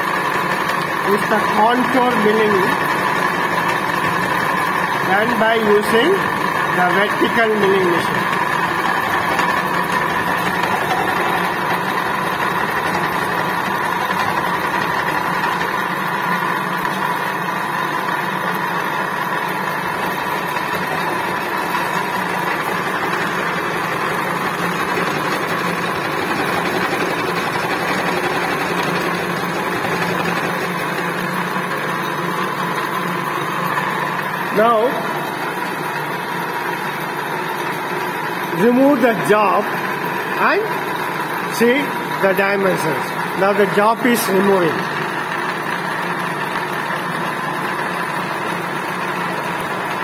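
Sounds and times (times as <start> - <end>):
milling machine cutting: 0.0 - 50.0.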